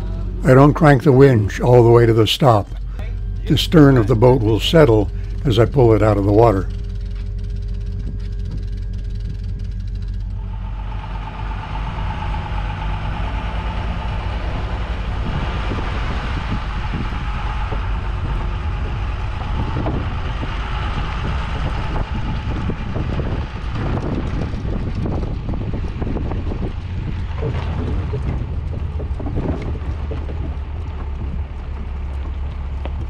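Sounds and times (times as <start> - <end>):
trailer knocking and rattling: 0.0 - 33.0
truck engine under load: 0.0 - 33.0
tyre and road noise: 0.0 - 33.0.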